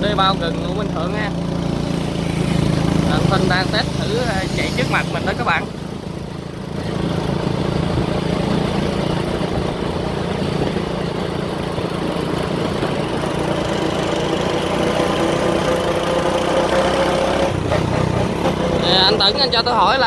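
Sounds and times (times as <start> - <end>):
motorbike engine running: 0.0 - 20.0
road and wind noise: 0.0 - 20.0.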